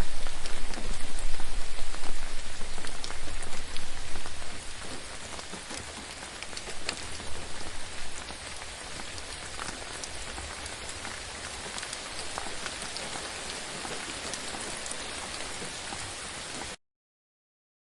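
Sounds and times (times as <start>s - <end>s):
gentle rain falling: 0.0s - 16.8s
raindrops ticking: 0.0s - 16.8s.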